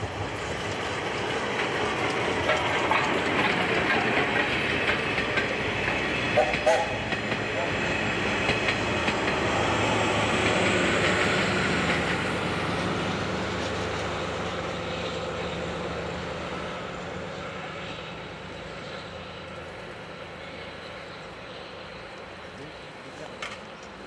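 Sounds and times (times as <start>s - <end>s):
steam train running by: 0.0s - 24.0s.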